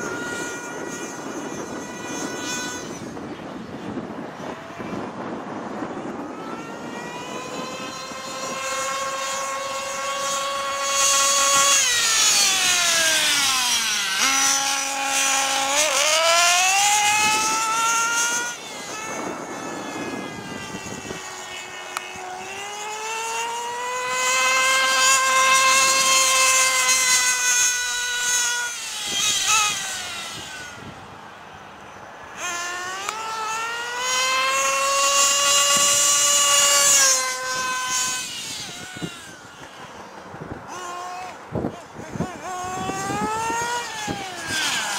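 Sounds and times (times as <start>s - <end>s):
rc car engine screaming: 0.0s - 44.9s.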